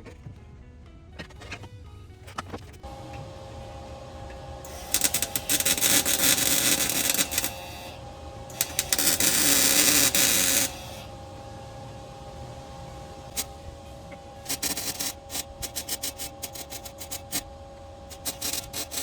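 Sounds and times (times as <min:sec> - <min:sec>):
steady hum: 0:02.7 - 0:19.0
welding arc crackling: 0:02.8 - 0:19.0.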